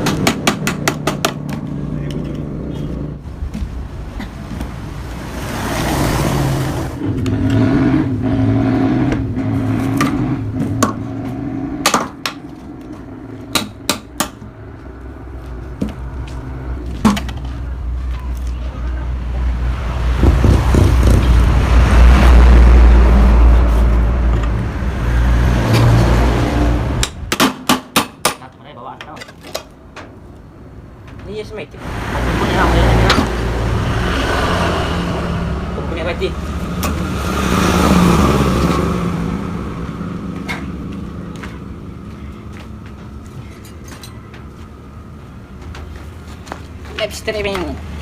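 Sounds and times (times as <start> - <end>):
vehicle engine rumble: 0.0 - 27.7, 28.3 - 48.0.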